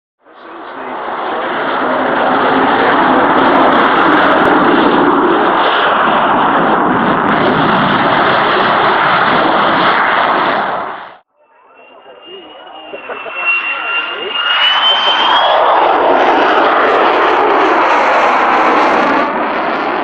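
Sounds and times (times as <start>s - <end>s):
jet aircraft engine roar: 0.2s - 20.0s.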